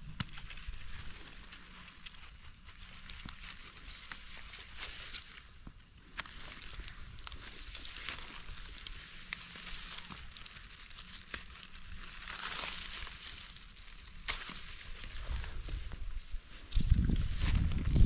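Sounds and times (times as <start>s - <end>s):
dry grass and leaves rustling: 0.0s - 18.0s.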